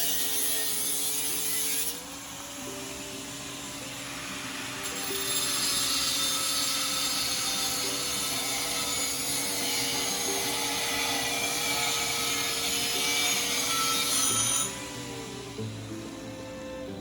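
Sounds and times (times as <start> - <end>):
angle grinder grinding metal: 0.0 - 17.0.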